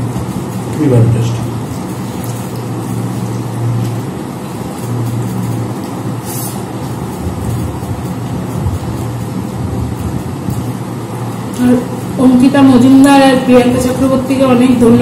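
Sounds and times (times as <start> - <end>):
rumbling background noise: 0.0 - 15.0
steady low hum: 0.0 - 15.0.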